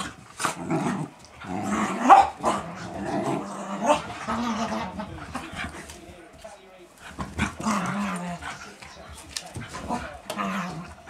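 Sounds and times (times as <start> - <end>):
puppies play-growling: 0.0 - 11.0.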